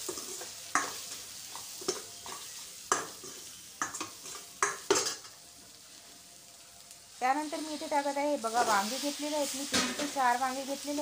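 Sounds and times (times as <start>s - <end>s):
light sizzle: 0.0s - 11.0s.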